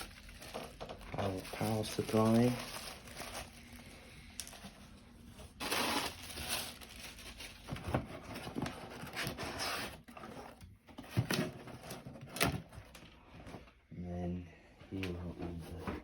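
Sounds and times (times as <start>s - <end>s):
packing material rustling: 0.0s - 13.2s.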